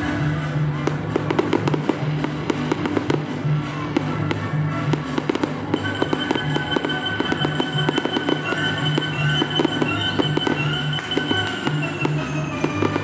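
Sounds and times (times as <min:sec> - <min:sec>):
fireworks bangs and crackles: 0:00.0 - 0:13.0
music: 0:00.0 - 0:13.0.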